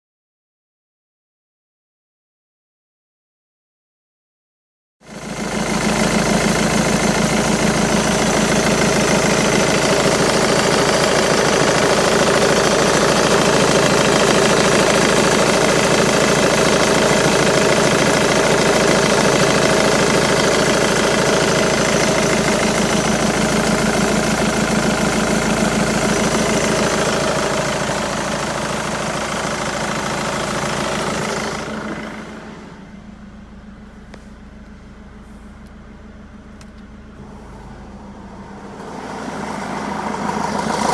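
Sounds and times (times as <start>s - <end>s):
diesel engine idling: 5.1s - 40.9s.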